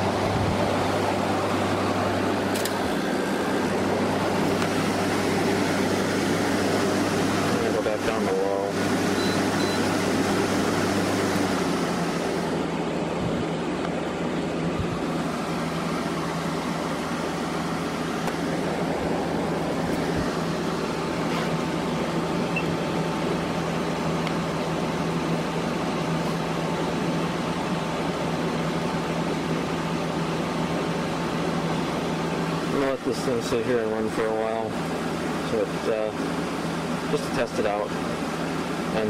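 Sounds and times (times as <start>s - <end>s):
air conditioner fan rushing: 0.0s - 39.0s
compressor humming low: 0.0s - 39.0s.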